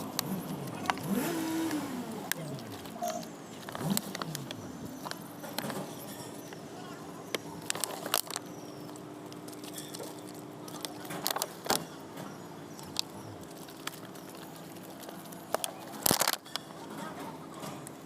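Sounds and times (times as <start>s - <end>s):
metallic clinks and clatters: 2.4s - 17.9s.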